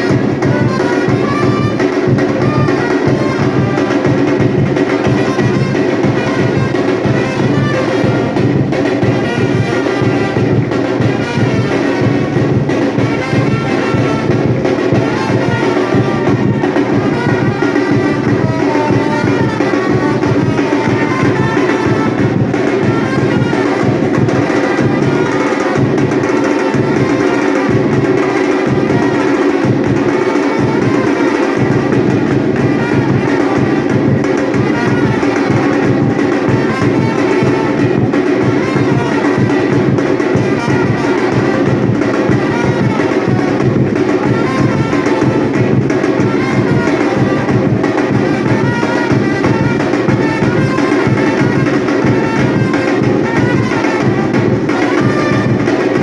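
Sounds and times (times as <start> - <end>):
drum ensemble playing rhythm: 0.0 - 56.0.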